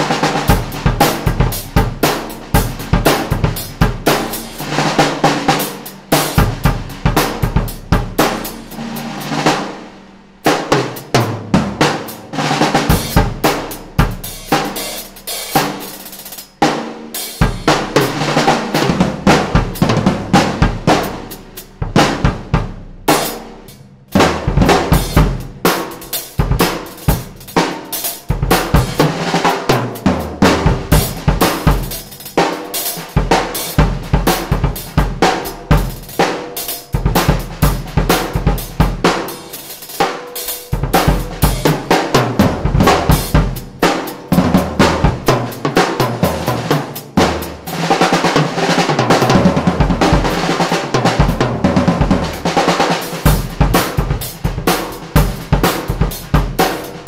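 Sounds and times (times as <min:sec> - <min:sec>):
drum kit groove: 0:00.0 - 0:57.0.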